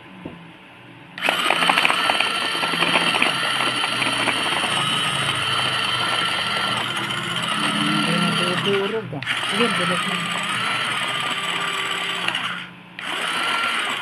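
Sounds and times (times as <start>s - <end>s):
food chopper motor whine: 1.2s - 14.0s.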